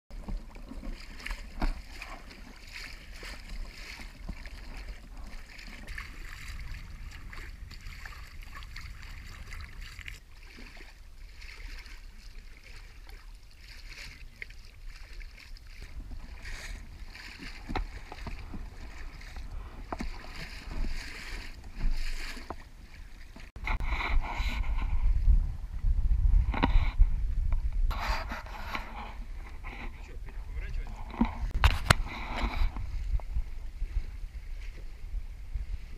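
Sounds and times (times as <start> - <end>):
wind rumble on microphone: 0.1 - 11.8, 14.8 - 35.9
water splashing along hull: 0.1 - 35.9.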